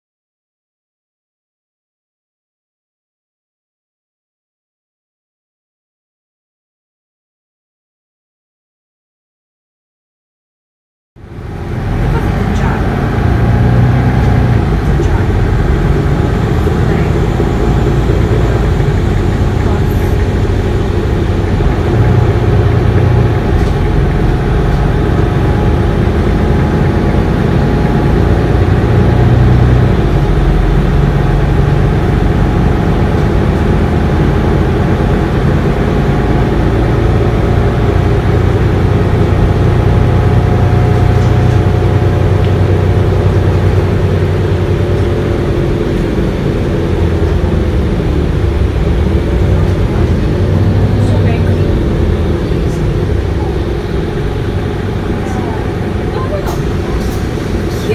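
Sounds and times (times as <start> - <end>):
bus engine hum: 11.2 - 57.9
road and cabin noise: 11.2 - 57.9.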